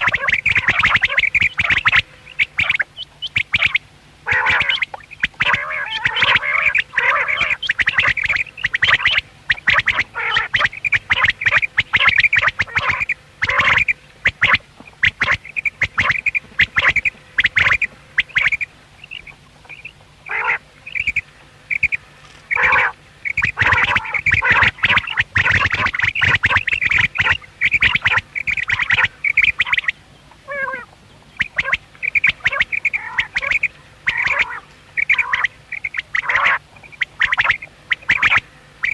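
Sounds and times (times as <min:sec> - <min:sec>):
quails calling: 0:00.0 - 0:38.9.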